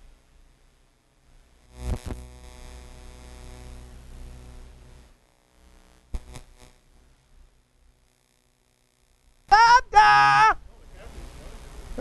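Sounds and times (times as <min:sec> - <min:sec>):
electrical hum and buzz: 0:00.0 - 0:12.0.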